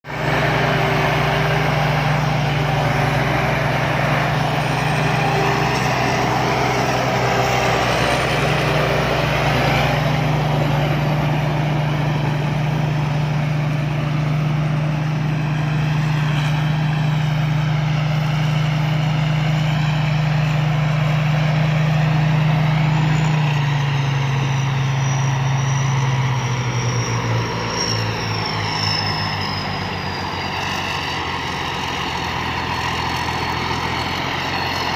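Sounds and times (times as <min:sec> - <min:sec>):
combine harvester engine: 0:00.0 - 0:34.9.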